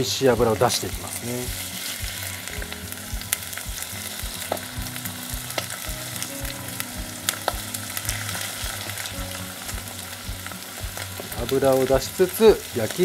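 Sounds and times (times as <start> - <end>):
chicken sizzling in oil: 0.0 - 13.0
small pops and crackles: 0.4 - 13.0.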